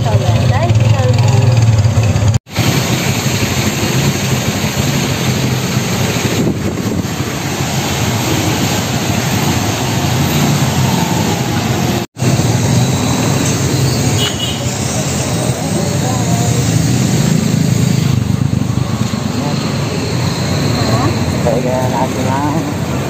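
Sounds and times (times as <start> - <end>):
motorcycle engine running: 0.0 - 14.6, 15.5 - 21.4
road and wind noise: 0.0 - 23.0.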